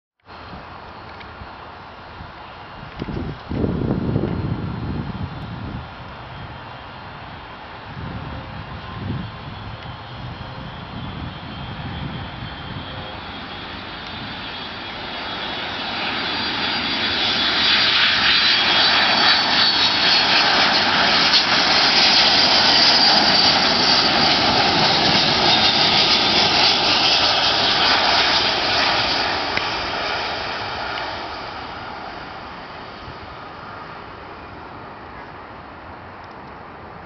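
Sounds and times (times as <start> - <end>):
jet engine roar with fan whine: 0.2 - 37.0.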